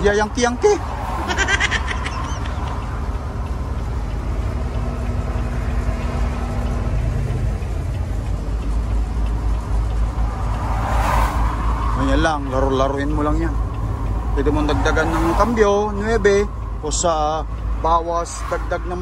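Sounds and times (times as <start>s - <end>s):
diesel truck engine drone: 0.0s - 19.0s.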